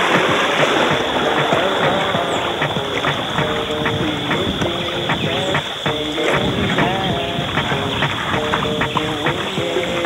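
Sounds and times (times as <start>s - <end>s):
music playing: 0.0s - 10.0s
river water rushing over stones: 0.0s - 10.0s.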